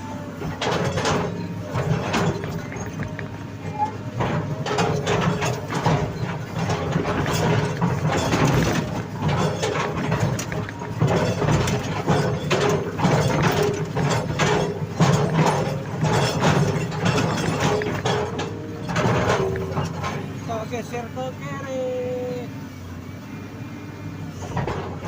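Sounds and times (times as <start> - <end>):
metal clanks and rattles: 0.0 - 21.1, 24.3 - 25.0
diesel engine under load: 0.0 - 25.0
hydraulic whine: 0.0 - 25.0.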